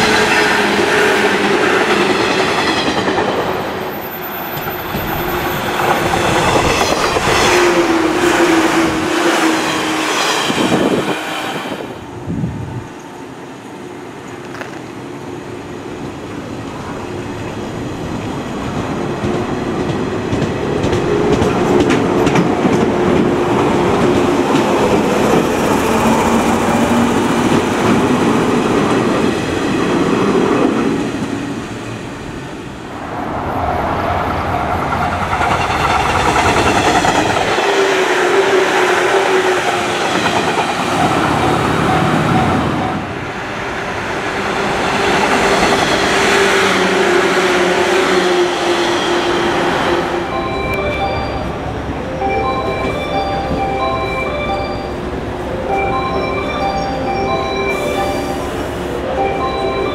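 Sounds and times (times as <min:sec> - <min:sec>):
electric train running past: 0:00.0 - 0:59.9.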